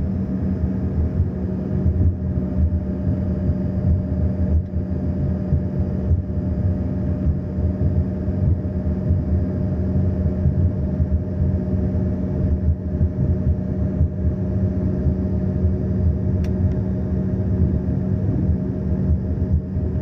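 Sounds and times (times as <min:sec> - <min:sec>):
airliner engines droning: 0:00.0 - 0:20.0.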